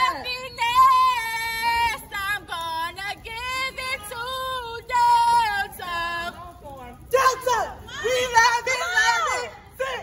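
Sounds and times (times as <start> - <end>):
women chanting: 0.0 - 10.0.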